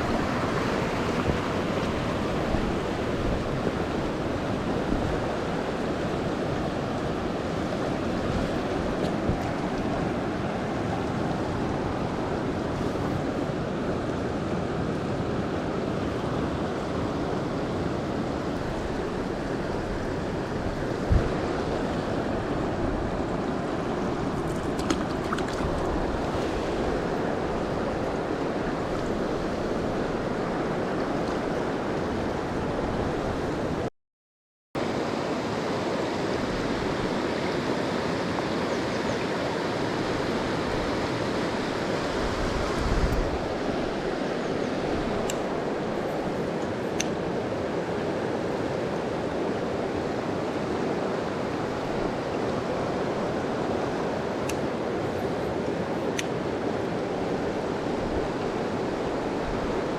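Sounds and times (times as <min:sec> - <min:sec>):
stream water rushing: 0:00.0 - 0:33.9, 0:34.8 - 0:59.9.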